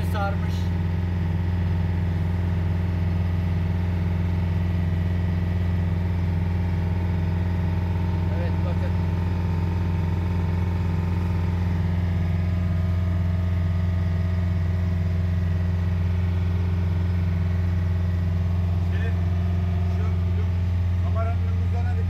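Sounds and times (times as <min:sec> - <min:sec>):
motorboat engine droning: 0:00.0 - 0:22.0.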